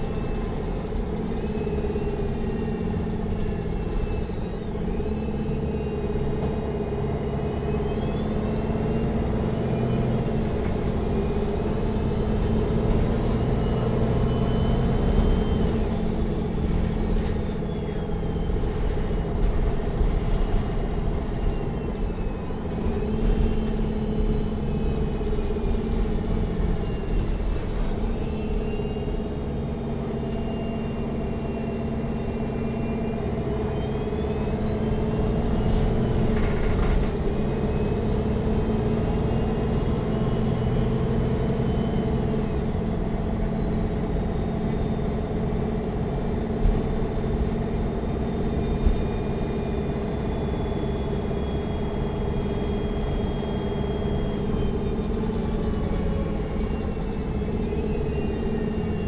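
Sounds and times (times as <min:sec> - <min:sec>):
bus engine rumble: 0:00.0 - 0:59.0
drivetrain whine: 0:00.0 - 0:59.0.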